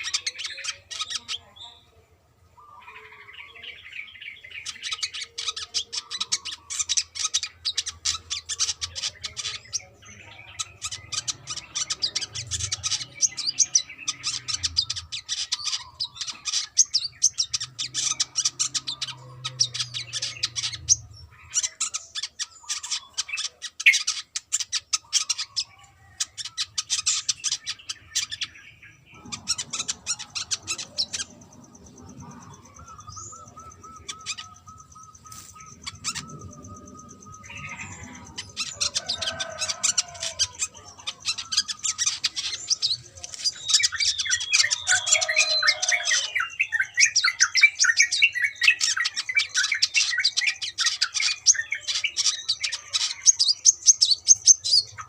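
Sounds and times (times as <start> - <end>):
sunbird twittering chirps: 0.0 - 55.0.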